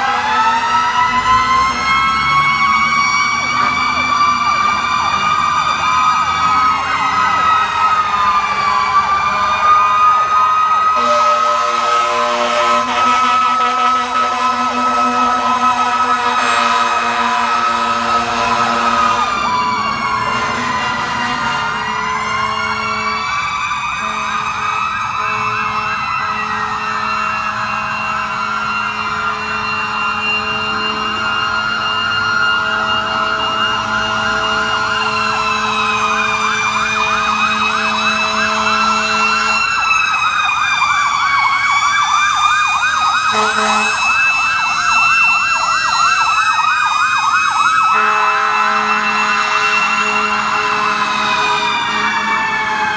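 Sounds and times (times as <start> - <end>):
fast yelp siren: 0.0 - 52.9
fire truck sirens wailing: 0.0 - 52.9.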